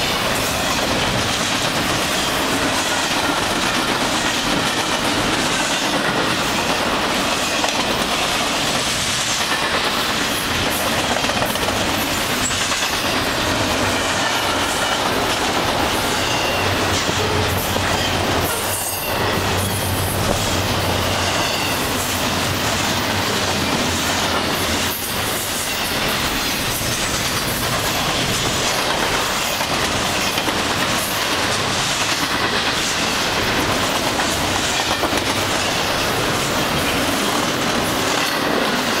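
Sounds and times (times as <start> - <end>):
freight train wheels rolling on rails: 0.0 - 39.0.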